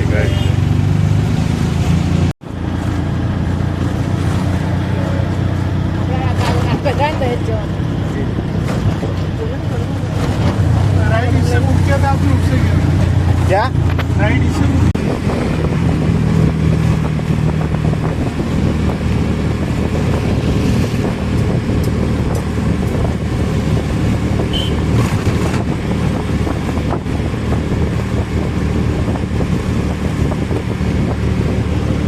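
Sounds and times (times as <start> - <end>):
car engine: 0.0 - 32.0
road rumble: 0.0 - 32.0
wind noise: 5.8 - 32.0.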